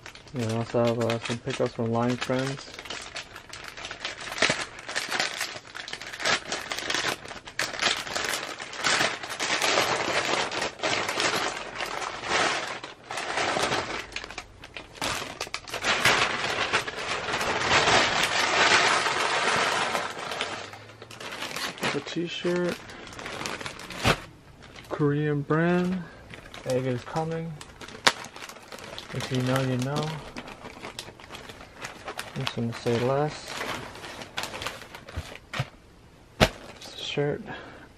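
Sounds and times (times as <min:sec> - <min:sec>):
plastic packaging crinkling: 0:00.0 - 0:35.8, 0:36.4 - 0:37.7.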